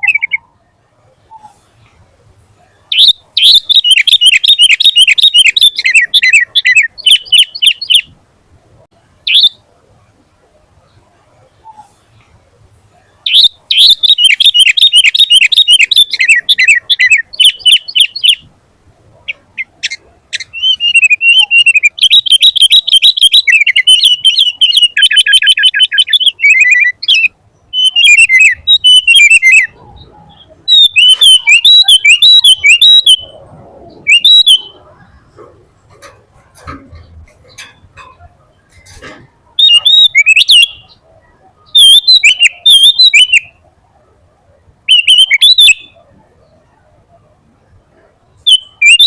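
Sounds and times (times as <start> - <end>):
bird singing: 0.0 - 1.7, 2.6 - 8.2, 9.2 - 9.8, 12.9 - 18.5, 19.1 - 43.7, 44.6 - 47.3, 48.0 - 49.0.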